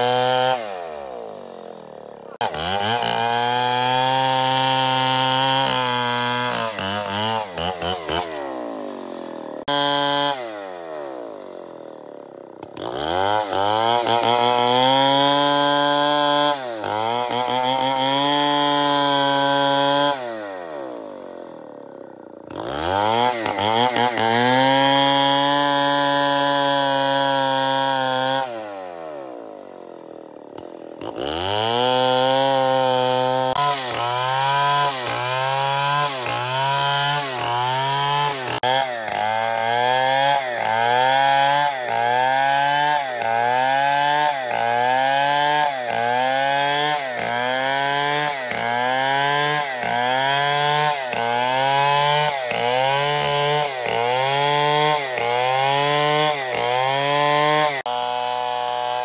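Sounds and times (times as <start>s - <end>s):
chainsaw cutting timber: 0.0s - 59.0s.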